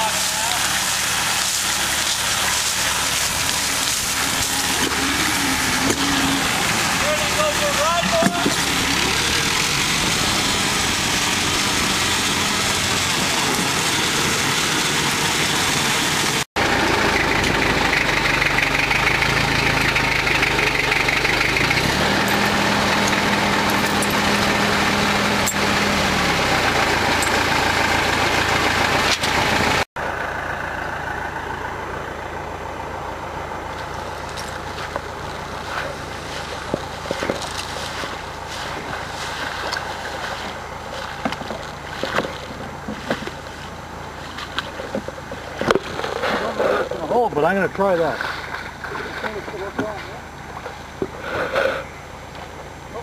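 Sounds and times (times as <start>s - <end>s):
engine idling: 0.0s - 53.0s
tractor engine running: 0.0s - 53.0s.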